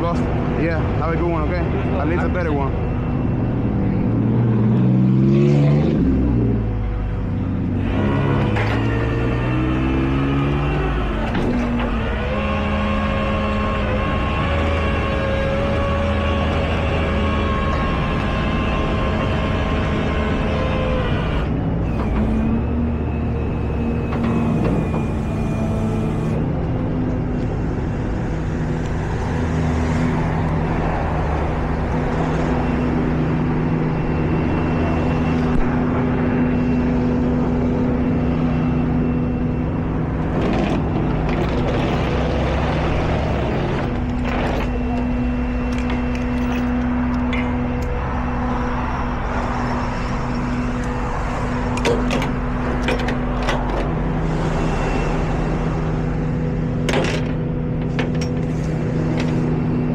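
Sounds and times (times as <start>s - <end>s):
tow truck engine running: 0.0s - 59.9s.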